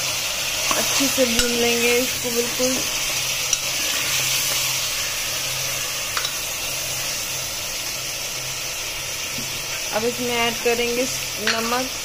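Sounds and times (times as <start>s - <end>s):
meat and onions sizzling in oil: 0.0s - 12.0s.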